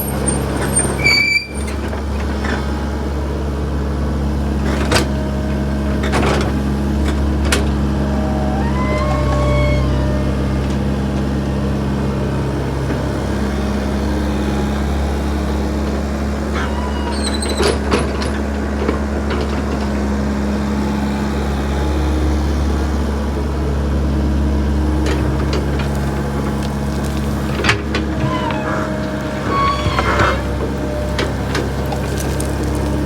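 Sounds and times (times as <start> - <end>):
backhoe engine running: 0.0 - 33.0.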